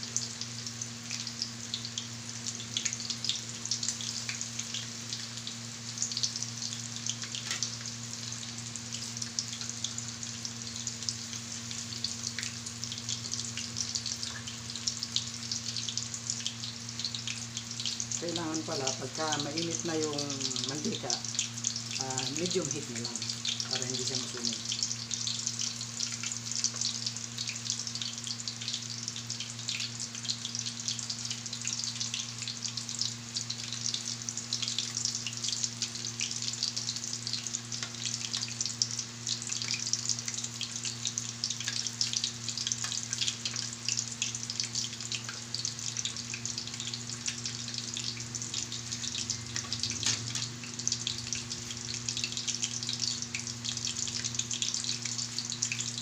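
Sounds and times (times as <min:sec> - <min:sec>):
food deep-frying in oil: 0:00.0 - 0:56.0
low steady hum: 0:00.0 - 0:56.0.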